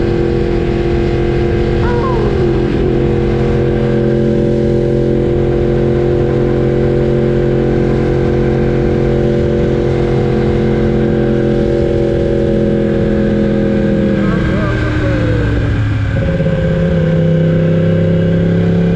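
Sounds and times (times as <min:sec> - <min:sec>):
motorcycle engine running: 0:00.0 - 0:18.9
wind and road rumble: 0:00.0 - 0:18.9.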